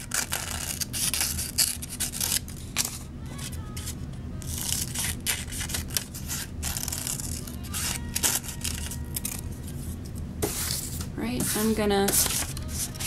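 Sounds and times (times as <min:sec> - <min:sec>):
scissors cutting paper: 0:00.0 - 0:09.8, 0:10.4 - 0:13.0.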